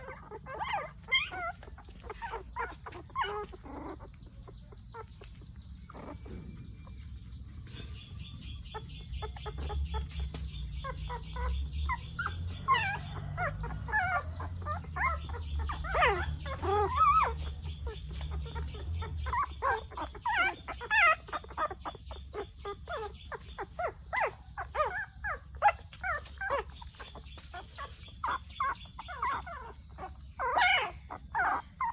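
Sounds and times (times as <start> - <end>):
puppy whining: 0.0 - 31.9.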